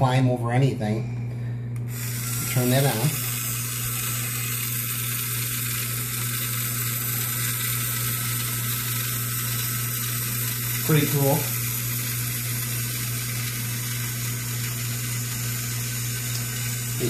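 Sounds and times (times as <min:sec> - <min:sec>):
toy car motor and gears running: 0:01.9 - 0:17.0.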